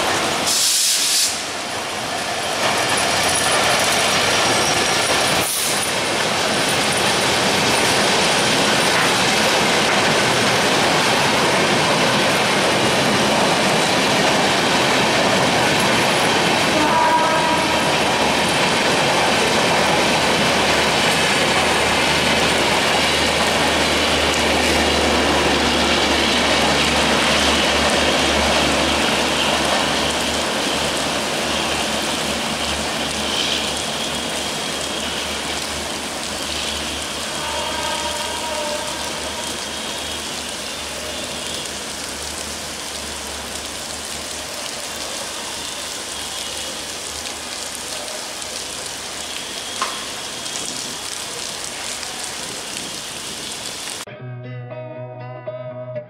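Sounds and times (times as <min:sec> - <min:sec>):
heavy rain hissing: 0:00.0 - 0:54.1
train coaches rumbling: 0:00.0 - 0:54.1.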